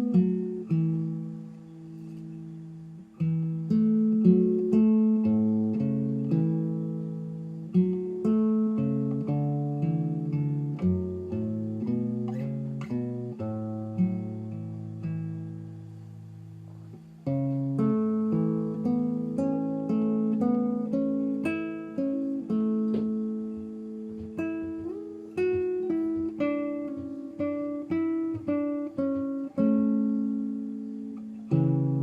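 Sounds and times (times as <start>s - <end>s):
acoustic guitar picking: 0.0s - 32.0s.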